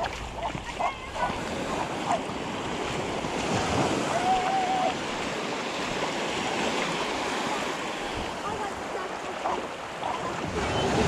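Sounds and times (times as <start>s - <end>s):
small waves breaking on beach: 0.0s - 11.0s
wind buffeting microphone: 0.0s - 11.0s.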